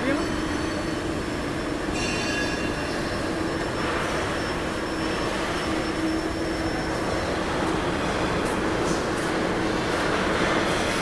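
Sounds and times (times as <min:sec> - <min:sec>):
factory machinery drone: 0:00.0 - 0:11.0.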